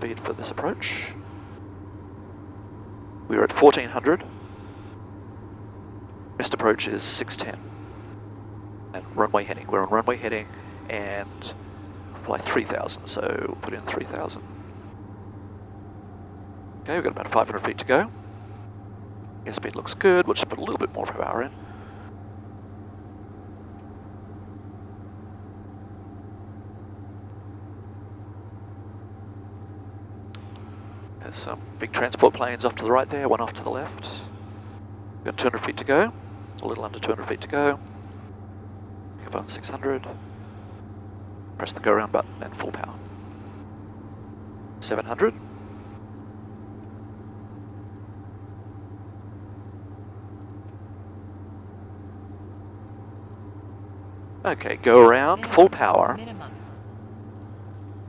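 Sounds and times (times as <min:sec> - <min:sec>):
aircraft engines and propellers droning: 0:00.0 - 0:58.0.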